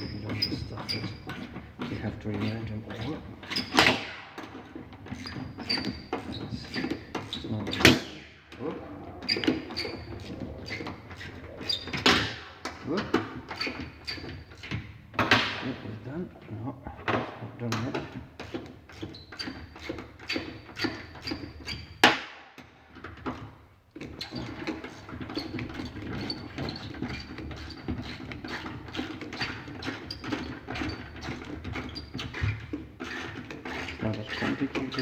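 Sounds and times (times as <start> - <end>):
hand tools clicking and knocking: 0.0 - 16.1, 16.9 - 35.0.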